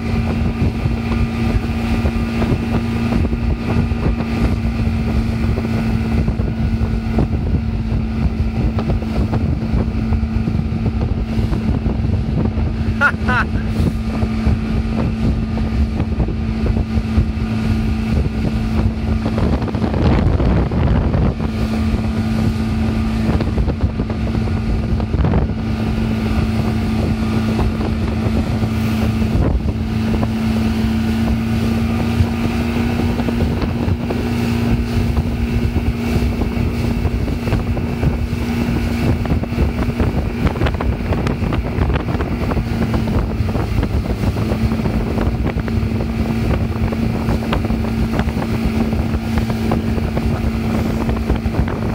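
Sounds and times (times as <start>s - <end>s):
outboard motor running: 0.0s - 51.9s
rush of boat wake: 0.0s - 51.9s
wind on microphone: 0.0s - 51.9s.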